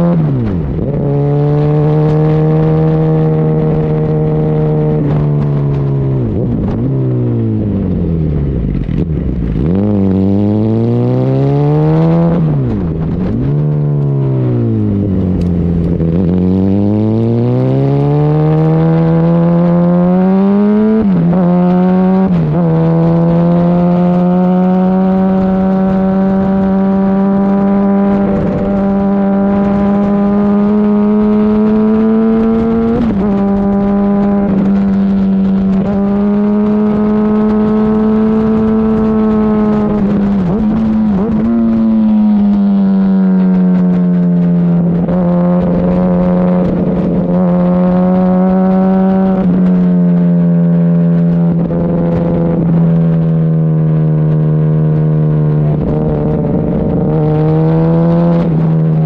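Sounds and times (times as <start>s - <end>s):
motorcycle engine revving: 0.0s - 59.0s
wind and road noise: 0.0s - 59.0s.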